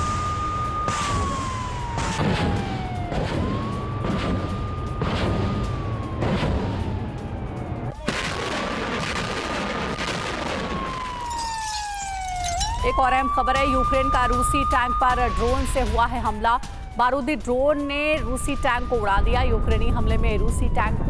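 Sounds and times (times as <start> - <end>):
warning siren wailing: 0.0 - 8.2, 9.2 - 21.0.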